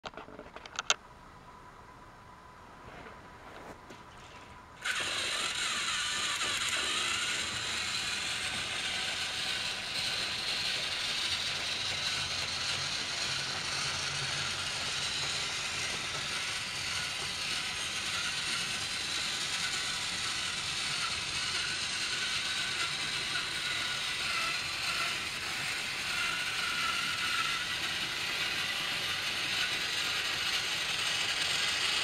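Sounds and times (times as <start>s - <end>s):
toy train motors whirring: 4.8s - 32.0s.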